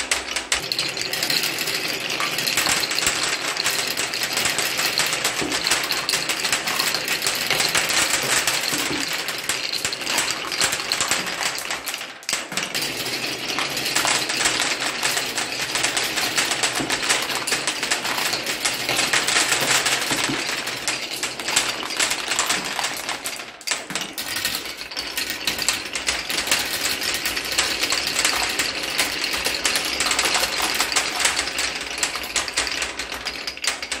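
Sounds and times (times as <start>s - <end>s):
marbles clattering down wooden track: 0.0s - 34.0s.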